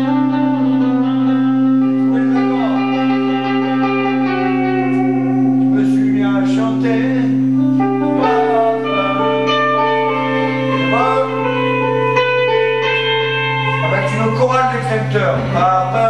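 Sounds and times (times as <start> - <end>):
electric guitars playing slow jam: 0.0 - 16.0
steady low drone: 0.0 - 16.0.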